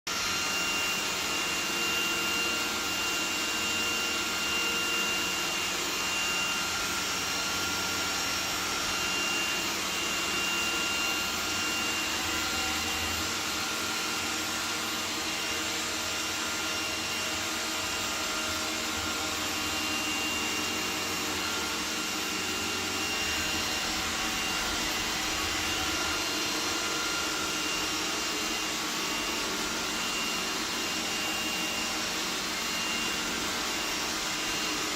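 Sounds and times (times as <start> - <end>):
robot vacuum whirring: 0.1 - 34.9.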